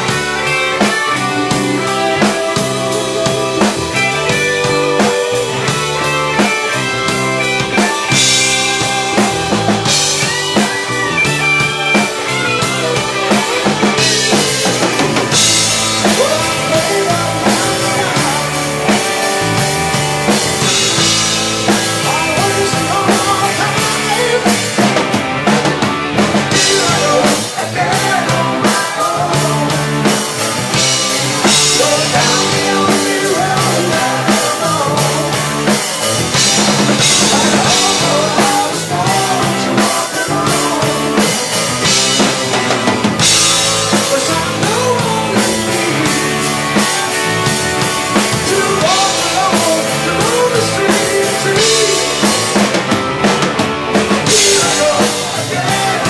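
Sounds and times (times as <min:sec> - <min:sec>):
distorted electric guitars: 0:00.0 - 0:56.0
drum kit beat: 0:00.0 - 0:56.0
keyboard: 0:00.0 - 0:56.0.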